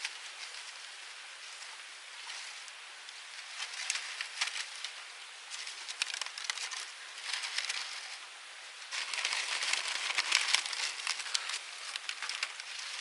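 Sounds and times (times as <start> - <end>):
steady fire hiss: 0.0 - 13.0
twigs crackling and popping: 0.0 - 13.0.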